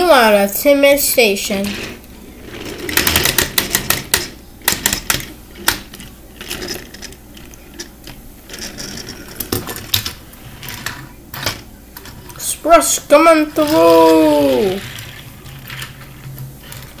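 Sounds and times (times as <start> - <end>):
plastic toy trains clattering: 2.5 - 12.5, 13.2 - 17.0.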